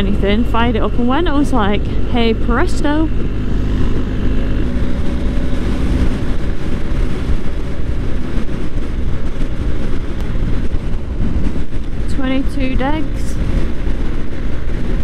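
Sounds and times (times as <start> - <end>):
motorcycle engine running: 0.0 - 15.0
wind rush on microphone: 0.0 - 15.0.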